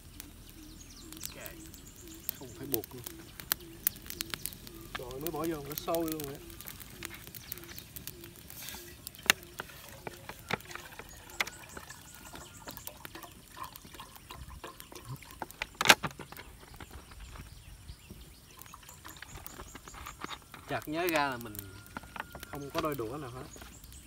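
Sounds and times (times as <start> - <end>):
pot bubbling at the boil: 0.0 - 24.0.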